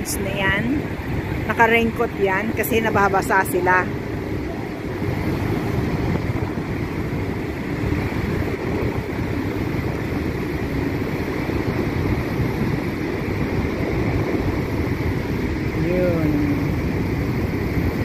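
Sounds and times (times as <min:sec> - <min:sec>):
waterfall roaring: 0:00.0 - 0:18.0
wind buffeting microphone: 0:00.0 - 0:18.0.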